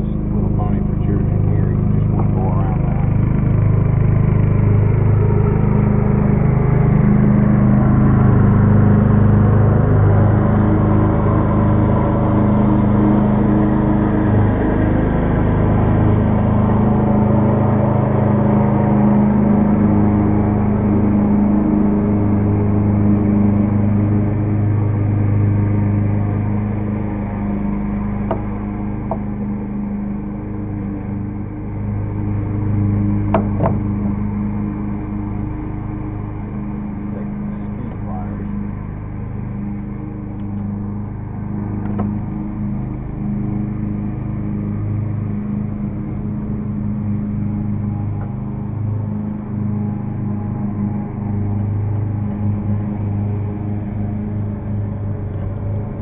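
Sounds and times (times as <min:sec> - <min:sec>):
riding lawn mower engine: 0:00.0 - 0:56.0.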